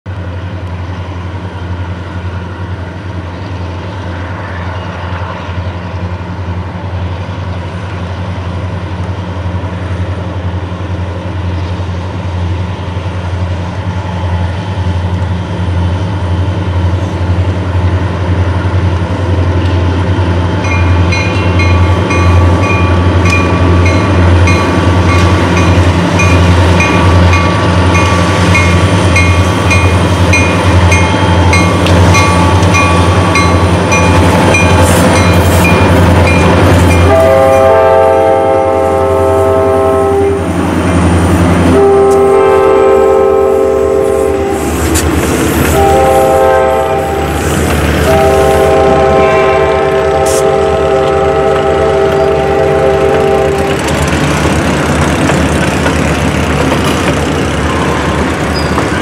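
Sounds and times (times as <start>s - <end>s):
diesel locomotive engine drone: 0.1s - 59.0s
rail noise: 0.1s - 59.0s.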